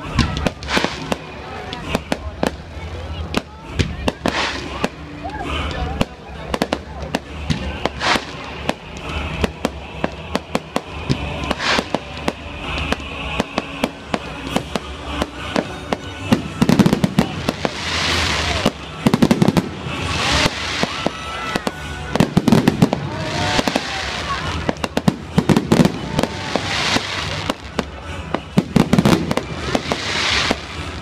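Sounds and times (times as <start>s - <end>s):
fireworks popping and crackling: 0.0s - 31.0s
hissing crackle: 4.1s - 31.0s.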